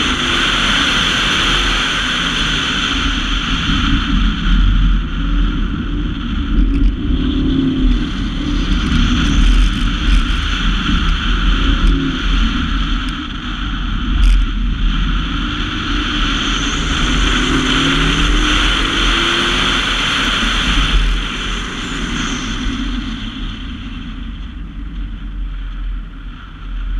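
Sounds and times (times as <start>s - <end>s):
car engine revving: 0.0s - 25.0s
road and wind noise: 0.0s - 26.9s.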